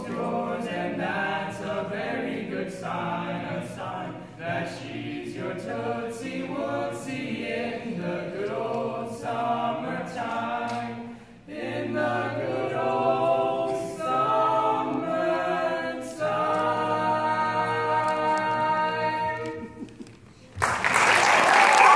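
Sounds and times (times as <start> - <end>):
male quartet singing a cappella: 0.0 - 19.8.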